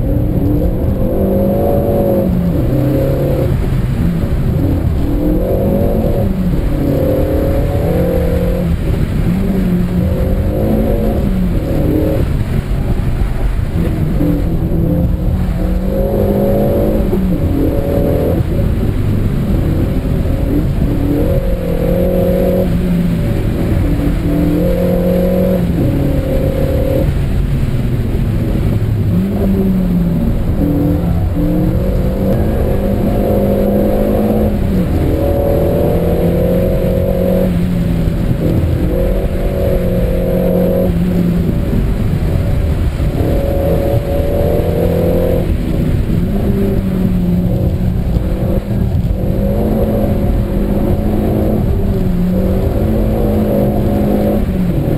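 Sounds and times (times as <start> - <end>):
car engine revving: 0.0 - 54.9
tyre and road noise: 0.0 - 54.9.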